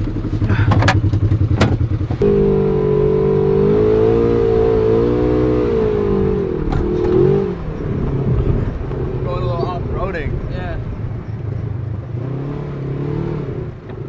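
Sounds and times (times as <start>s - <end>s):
off-road vehicle engine under throttle: 0.0s - 14.0s.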